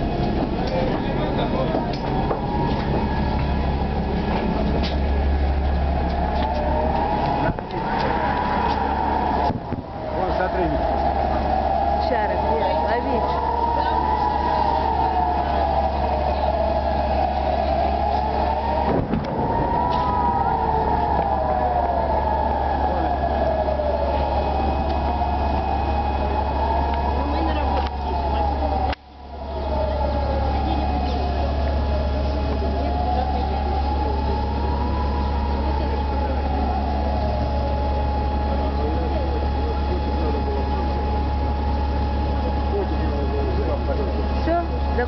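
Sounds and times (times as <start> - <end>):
air-raid siren wailing: 0.0 - 45.0
constant low rumble: 0.0 - 45.0.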